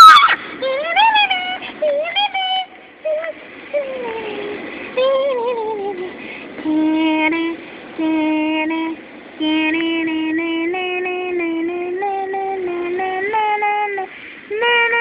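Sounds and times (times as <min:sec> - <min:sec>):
high voice singing: 0:00.0 - 0:15.0.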